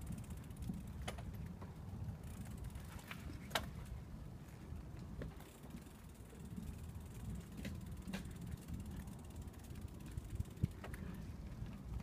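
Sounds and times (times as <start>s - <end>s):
bike clicks and rattles: 0.0s - 12.0s.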